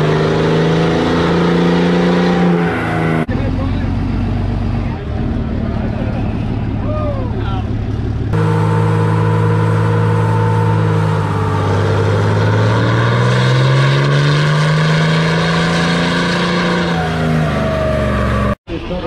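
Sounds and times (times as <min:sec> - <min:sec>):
diesel engine revving under load: 0:00.0 - 0:19.0.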